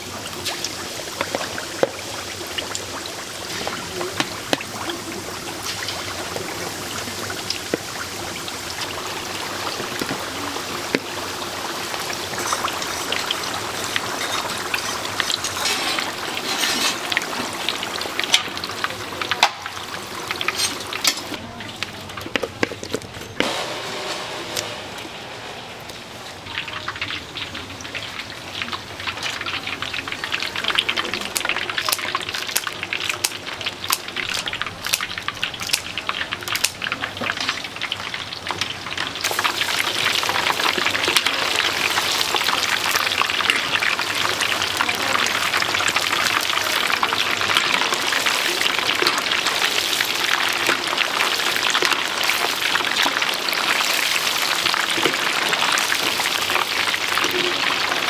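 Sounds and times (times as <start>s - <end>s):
chicken deep-frying sizzle: 0.0s - 58.0s.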